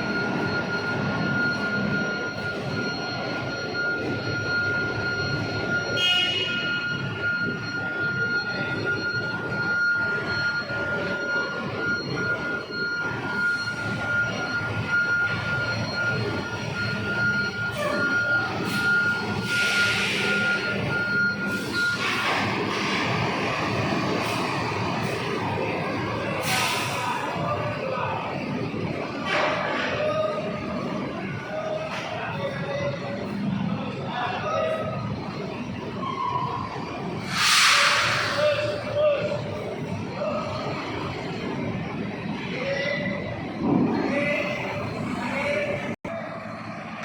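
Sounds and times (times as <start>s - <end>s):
constant high whine: 0.0s - 47.0s
truck engine rumbling: 0.0s - 47.0s.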